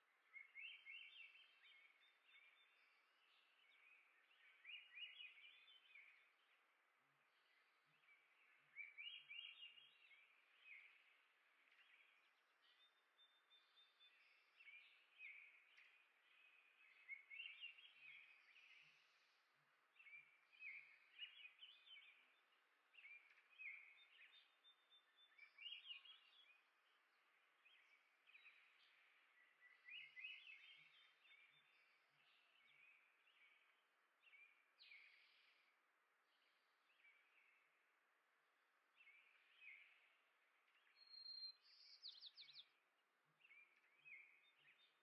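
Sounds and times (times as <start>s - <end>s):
finch song: 0.0s - 45.0s.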